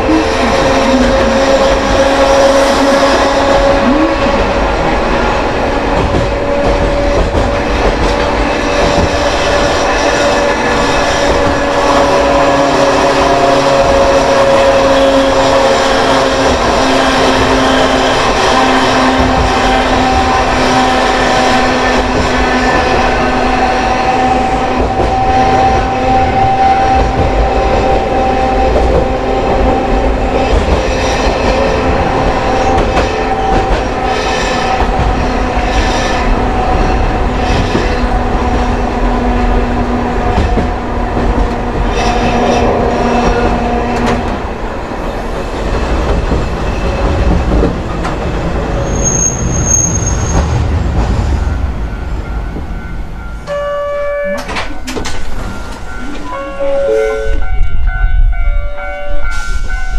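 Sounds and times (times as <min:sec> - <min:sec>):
tram motors whining: 0:00.0 - 0:59.9
wheels rumbling on rail: 0:00.0 - 0:59.9.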